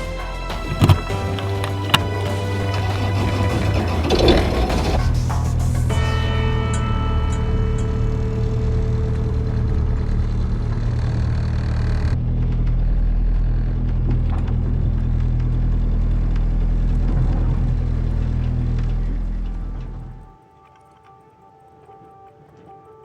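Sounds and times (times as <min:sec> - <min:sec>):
boat engine droning: 0:00.0 - 0:20.5.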